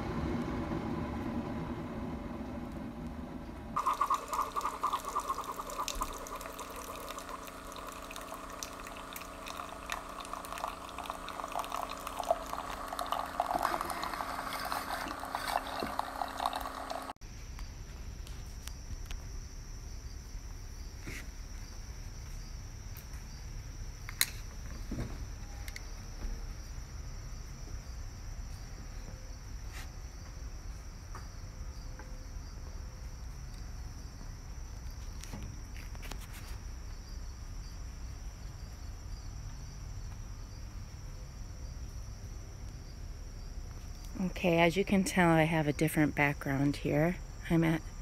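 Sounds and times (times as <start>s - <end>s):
insects chirring: 3.8s - 48.0s.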